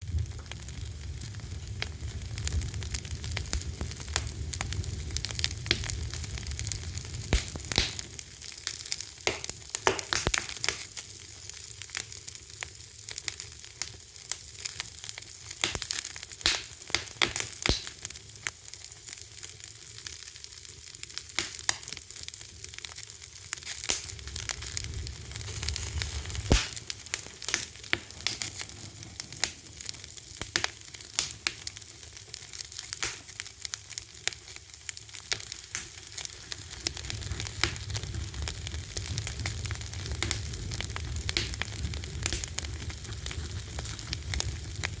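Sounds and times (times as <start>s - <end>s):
fire crackling and popping: 0.0s - 45.0s
low fire rumble: 0.0s - 45.0s.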